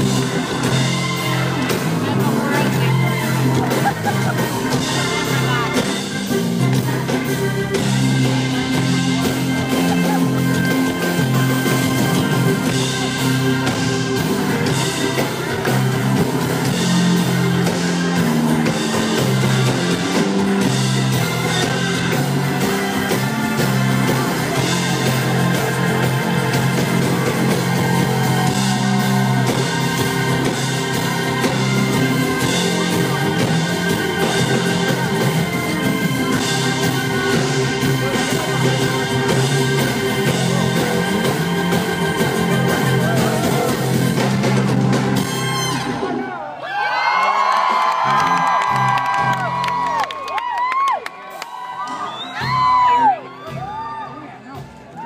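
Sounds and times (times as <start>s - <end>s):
live rock band playing: 0.0s - 46.5s, 47.3s - 55.0s.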